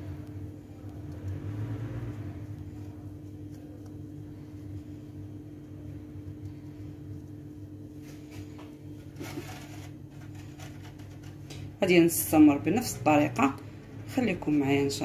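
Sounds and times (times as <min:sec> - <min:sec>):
hands working dough: 0:00.0 - 0:15.0
low mechanical hum: 0:00.0 - 0:15.0.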